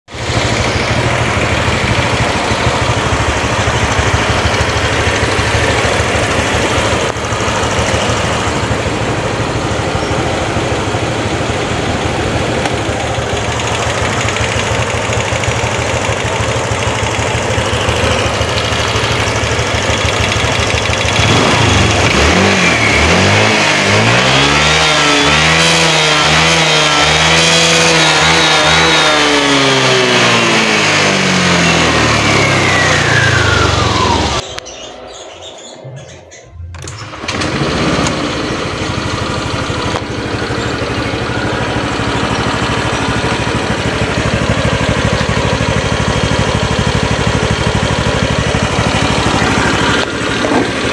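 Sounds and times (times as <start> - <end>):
scooter engine idling and revving: 0.0 - 50.9.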